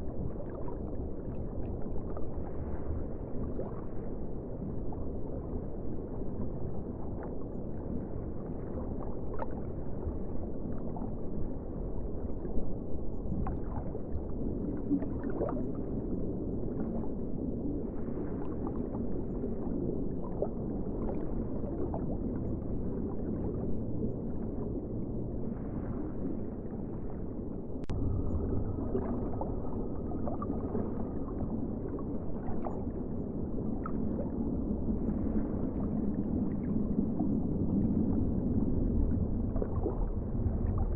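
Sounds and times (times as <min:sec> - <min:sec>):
muffled ocean water: 0:00.0 - 0:40.9
water gurgles: 0:00.0 - 0:40.9.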